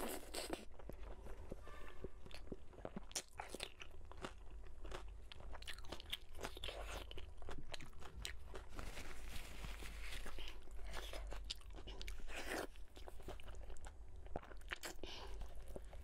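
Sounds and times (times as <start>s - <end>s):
chewing and crunching: 2.2s - 16.0s.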